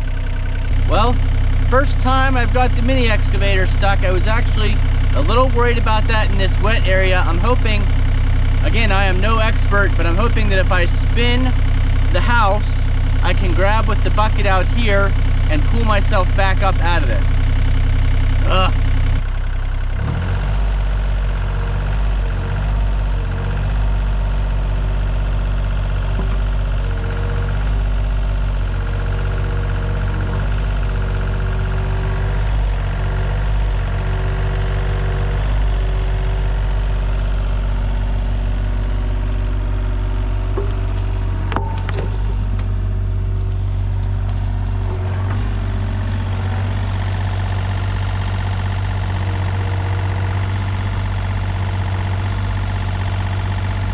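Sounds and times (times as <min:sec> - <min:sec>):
diesel engine running: 0:00.0 - 0:53.9
hydraulic whine: 0:00.0 - 0:53.9.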